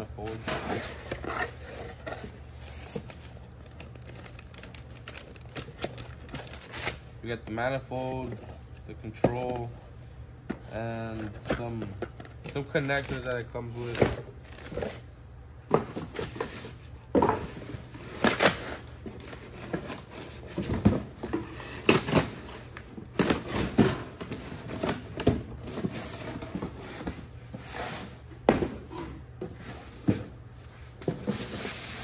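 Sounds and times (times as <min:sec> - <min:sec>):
cardboard and plastic rustling: 0:00.1 - 0:15.1, 0:15.7 - 0:32.0.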